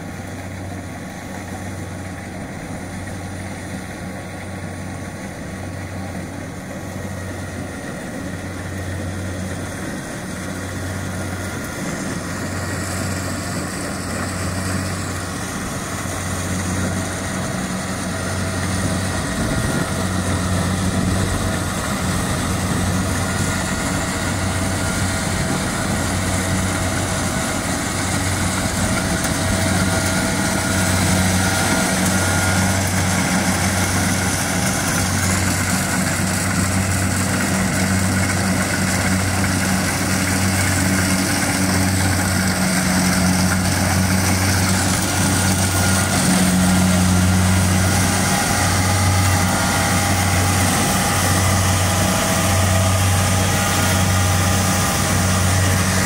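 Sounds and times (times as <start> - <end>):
combine harvester diesel engine drone: 0.0 - 56.0.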